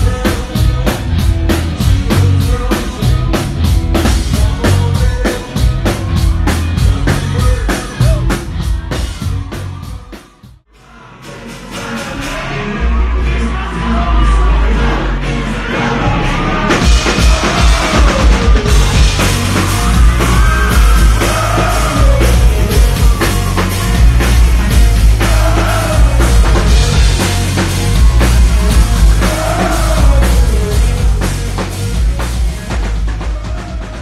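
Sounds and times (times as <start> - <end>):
rock band playing: 0.0 - 10.5, 15.7 - 34.0
heavy drums: 0.0 - 34.0
person singing: 0.0 - 34.0.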